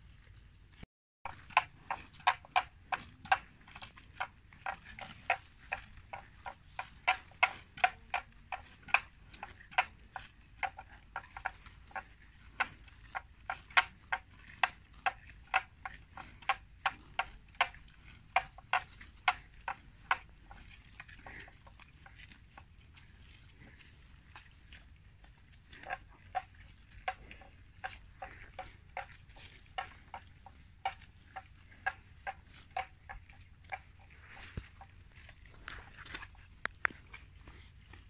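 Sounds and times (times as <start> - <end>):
buffalo cropping grass: 0.0 - 38.0.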